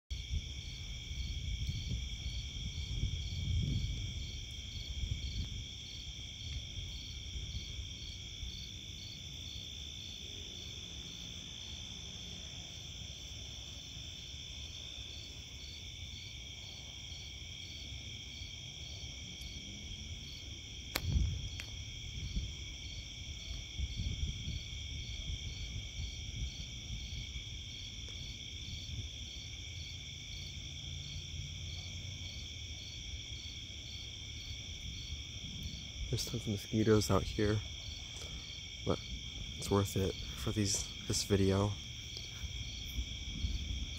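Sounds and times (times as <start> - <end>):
crickets and insects trilling: 0.1 - 43.9.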